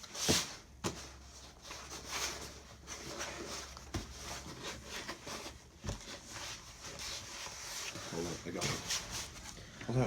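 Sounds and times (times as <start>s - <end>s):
cardboard rustling and scraping: 0.0s - 9.5s.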